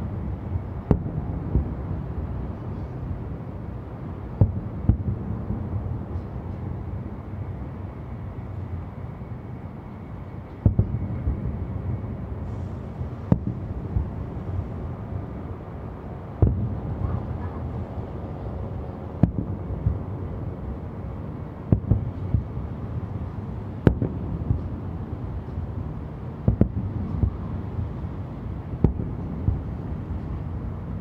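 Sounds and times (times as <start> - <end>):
steady low background roar: 0.0 - 31.0
distant fireworks bursting: 0.2 - 3.0, 4.1 - 6.8, 10.5 - 31.0.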